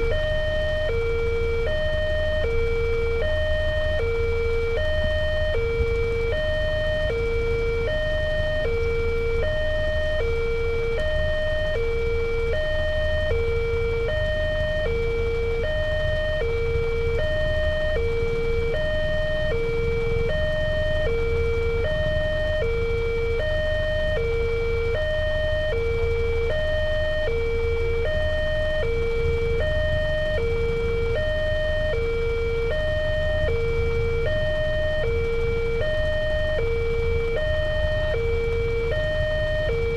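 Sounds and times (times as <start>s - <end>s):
steady low rumble: 0.0s - 39.9s
two-tone crossing siren: 0.0s - 39.9s.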